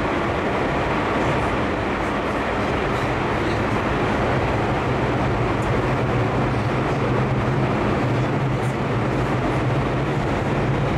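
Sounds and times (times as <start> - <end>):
electric train running: 0.0 - 10.9.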